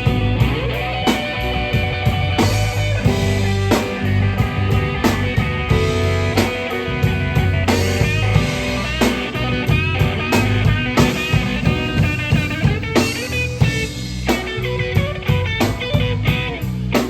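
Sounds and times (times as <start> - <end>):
bass guitar: 0.0 - 17.0
drum kit: 0.0 - 17.0
electric guitar lead with bent notes: 0.0 - 17.0.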